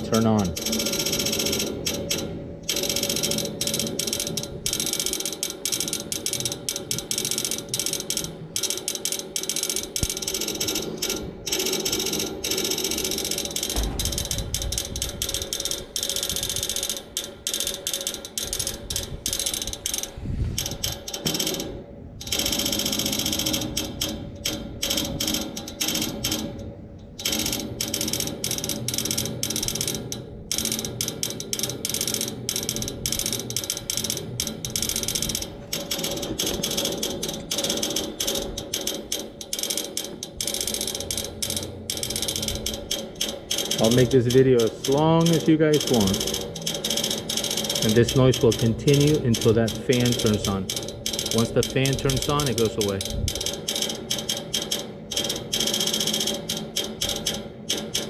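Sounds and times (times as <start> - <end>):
air-conditioning unit hum: 0.0 - 58.0
rapid ratchet-like clicking: 0.0 - 58.0.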